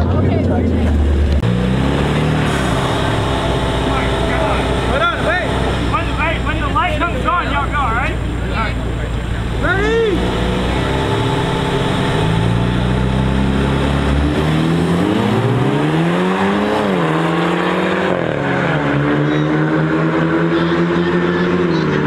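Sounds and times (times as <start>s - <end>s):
car engines accelerating hard: 0.0s - 22.0s.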